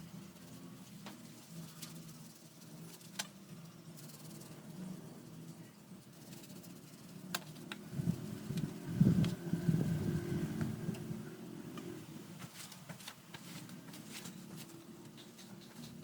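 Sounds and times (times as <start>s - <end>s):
electric fan hum: 0.0s - 16.0s.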